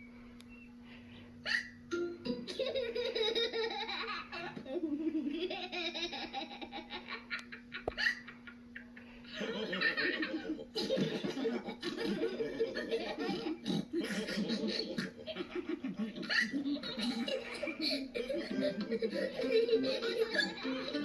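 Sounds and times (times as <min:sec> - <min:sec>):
cartoon voices laughing: 0:01.5 - 0:01.7, 0:02.3 - 0:21.0.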